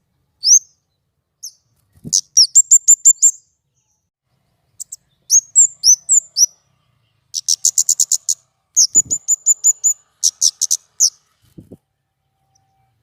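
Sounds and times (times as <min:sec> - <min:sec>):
songbird chirping and trilling: 0:00.4 - 0:13.0.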